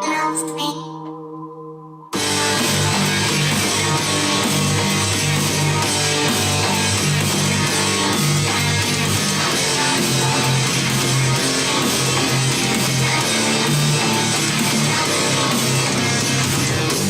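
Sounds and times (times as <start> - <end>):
bass line: 2.2 - 17.0
strummed guitar: 2.2 - 17.0.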